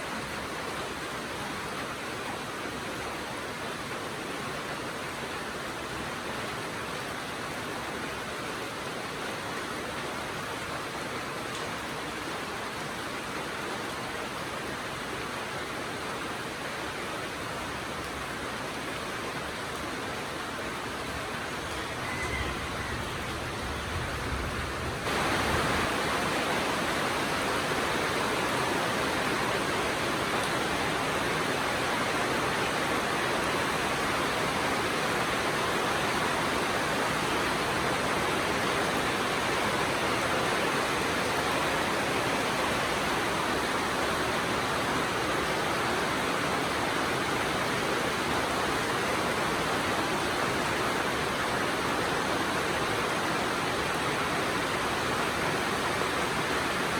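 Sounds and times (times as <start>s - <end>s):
dense rainfall hiss: 0.0s - 56.9s.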